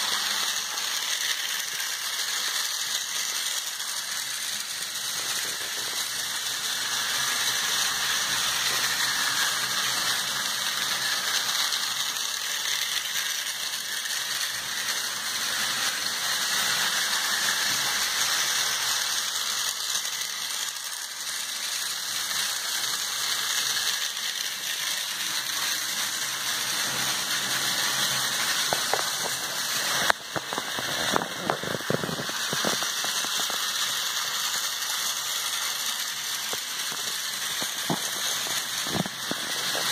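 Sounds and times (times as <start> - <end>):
toy train rattling whir: 0.0 - 39.9.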